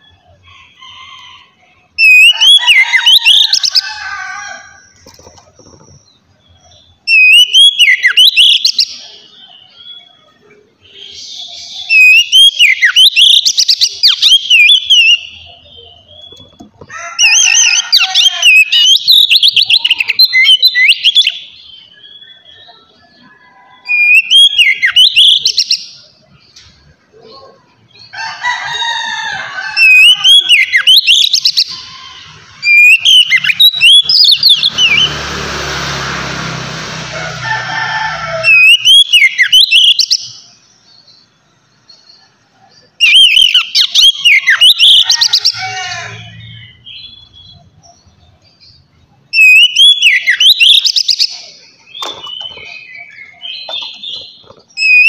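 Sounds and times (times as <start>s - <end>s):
bird singing warbled phrases: 0.0s - 28.7s, 29.3s - 35.4s, 38.4s - 55.0s.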